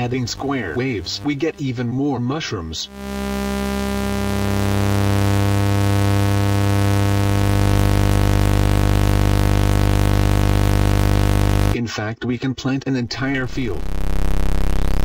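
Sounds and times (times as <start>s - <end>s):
buzzy synthesized drone: 0.0s - 11.8s, 13.2s - 15.0s.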